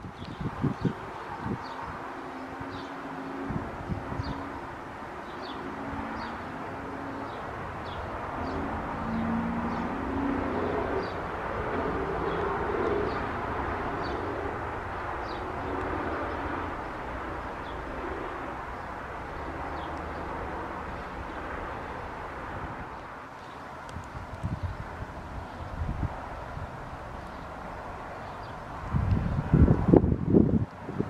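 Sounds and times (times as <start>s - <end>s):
distant road traffic: 0.0s - 31.0s
engine hum: 0.0s - 31.0s.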